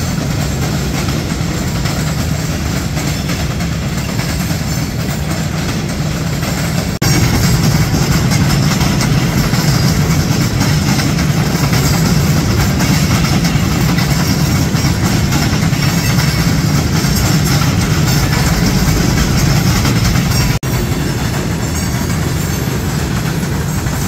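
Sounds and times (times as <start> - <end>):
diesel locomotive engine rumbling: 0.0 - 24.0.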